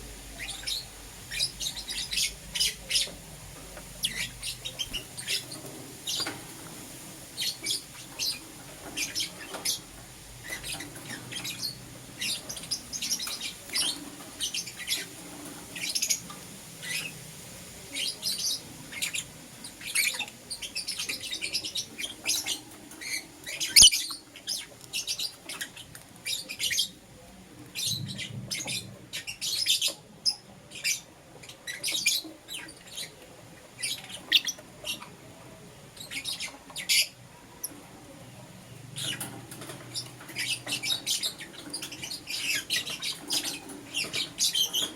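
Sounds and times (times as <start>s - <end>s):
lovebirds chirping: 0.0s - 17.2s, 17.8s - 33.2s, 33.8s - 44.9s.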